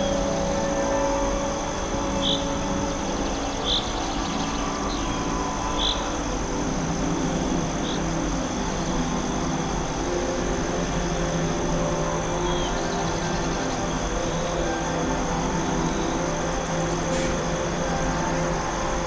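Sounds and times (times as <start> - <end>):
high insect-like hum: 0.0 - 19.0
low sustained drone: 0.0 - 19.0.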